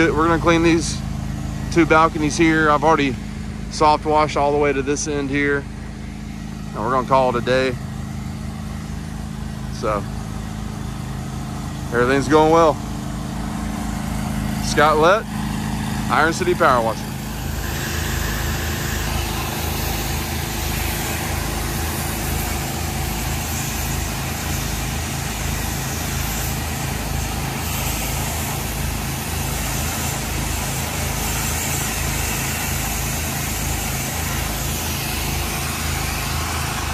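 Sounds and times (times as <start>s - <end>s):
engine running with low throb: 0.0s - 36.9s.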